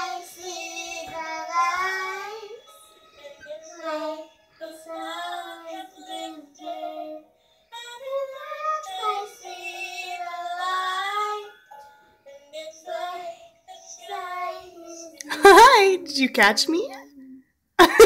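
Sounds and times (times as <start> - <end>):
girl singing: 0.0 - 7.2, 7.8 - 11.6, 12.3 - 16.0.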